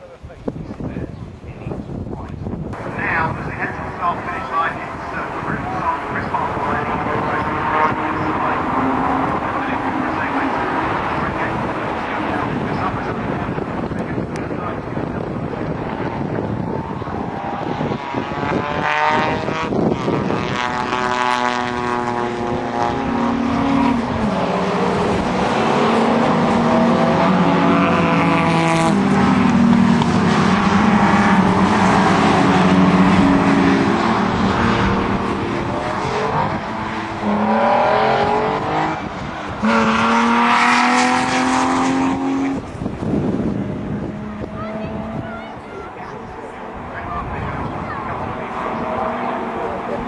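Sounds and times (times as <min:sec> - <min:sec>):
racing car engines revving: 0:00.0 - 0:50.0.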